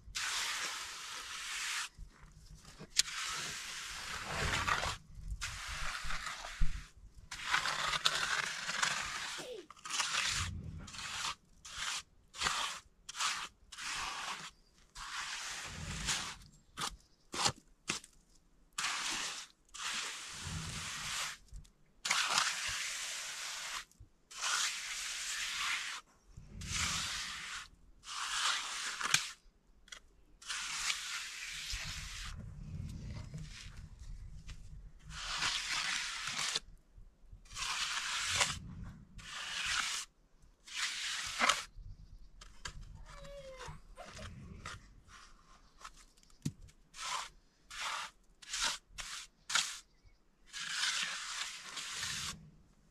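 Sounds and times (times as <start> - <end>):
trowel scraping wet cement: 0.1 - 18.1, 18.8 - 36.7, 37.5 - 41.8, 42.4 - 52.4.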